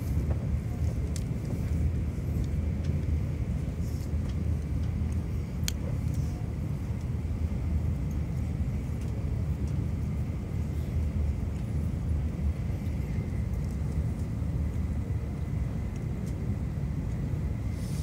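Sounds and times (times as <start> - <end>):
train cabin rumble: 0.0 - 18.0.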